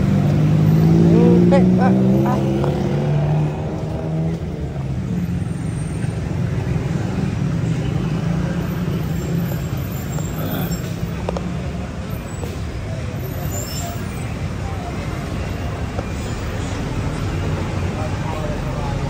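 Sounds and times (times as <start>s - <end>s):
street noise: 0.0s - 19.0s
vehicle engine droning: 0.0s - 19.0s.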